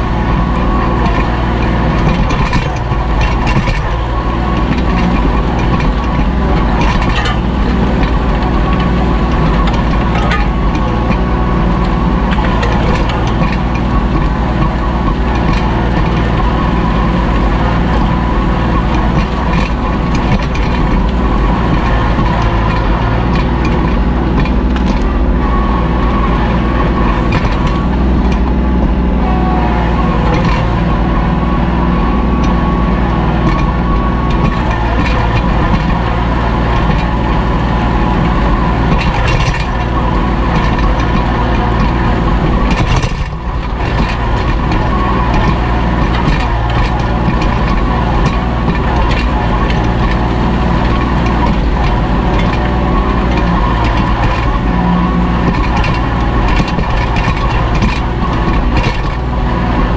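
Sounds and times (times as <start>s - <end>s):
harrow discs knocking: 0.0s - 59.9s
tractor diesel engine running: 0.0s - 59.9s.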